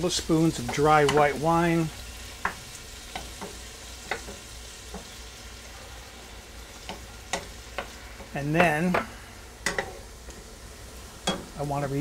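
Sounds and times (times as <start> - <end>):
shrimp sizzling in a skillet: 0.0 - 12.0.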